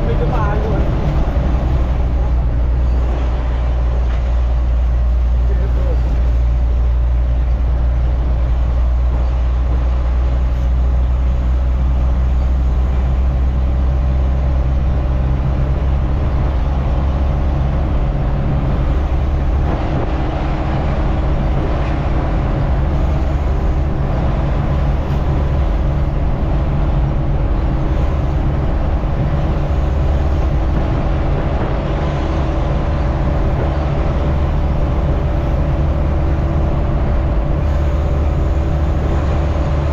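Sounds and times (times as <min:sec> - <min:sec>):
road noise: 0:00.0 - 0:39.9
truck engine running: 0:00.0 - 0:39.9.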